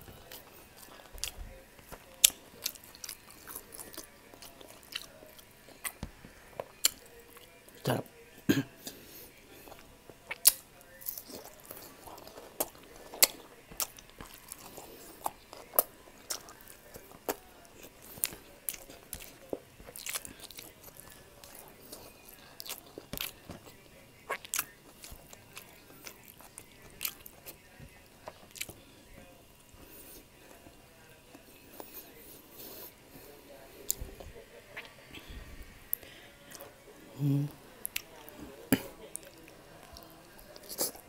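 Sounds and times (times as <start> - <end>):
chewing and mouth sounds: 0.0 - 8.0, 9.6 - 33.2, 33.8 - 41.0.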